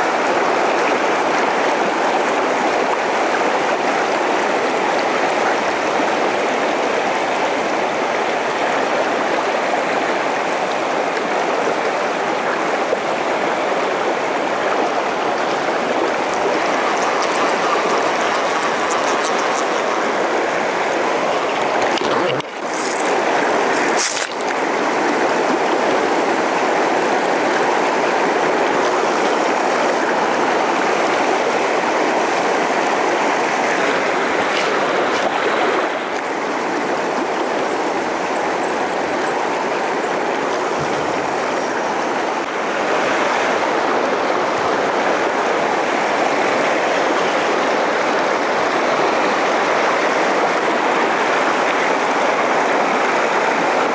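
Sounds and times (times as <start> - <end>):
river rushing over stones: 0.0 - 53.9.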